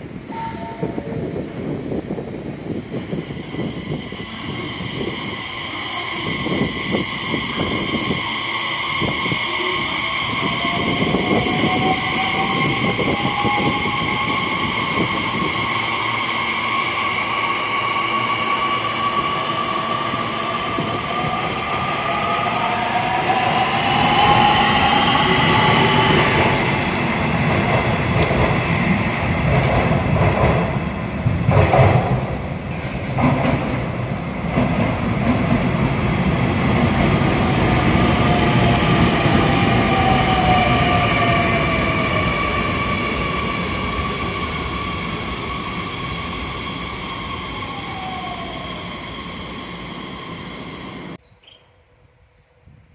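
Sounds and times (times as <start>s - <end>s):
train wheels rumbling: 0.0s - 51.2s.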